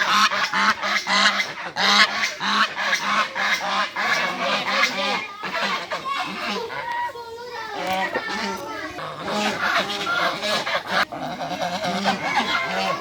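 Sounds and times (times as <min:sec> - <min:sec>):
swans honking: 0:00.0 - 0:13.0.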